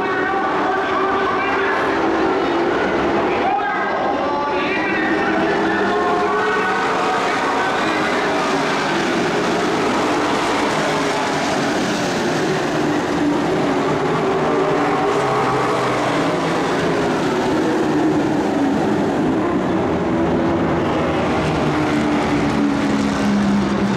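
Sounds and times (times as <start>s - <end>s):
racing truck engines passing: 0.0s - 23.9s.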